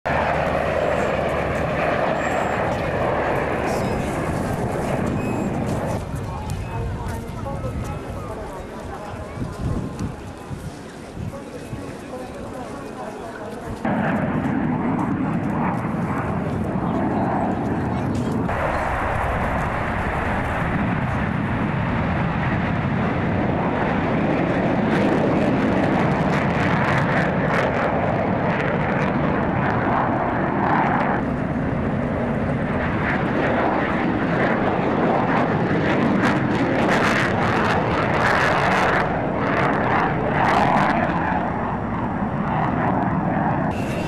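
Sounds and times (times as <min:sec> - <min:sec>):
fighter jet taking off: 0:00.1 - 0:12.9, 0:13.7 - 0:44.0.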